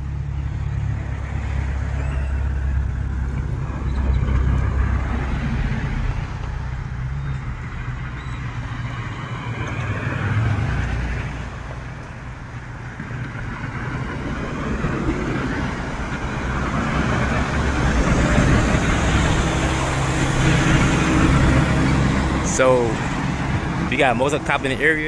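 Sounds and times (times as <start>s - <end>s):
cars and trucks driving past: 0.0s - 25.0s.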